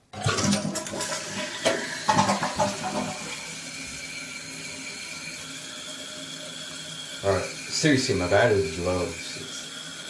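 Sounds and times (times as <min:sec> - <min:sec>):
toilet flushing: 0:00.0 - 0:10.0
toilet tank refilling hiss: 0:00.0 - 0:10.0.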